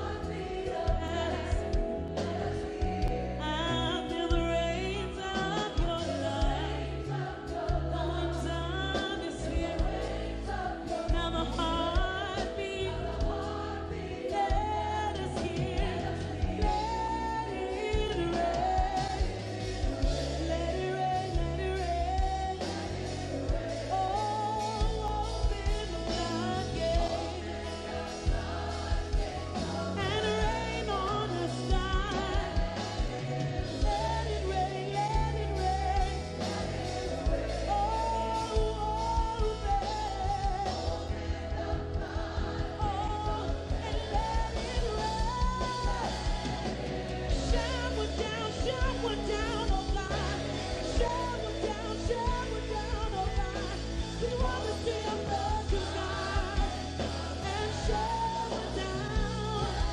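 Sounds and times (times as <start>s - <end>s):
backing singers: 0.0s - 59.9s
keyboards: 0.0s - 59.9s
woman singing lead melody: 0.0s - 59.9s.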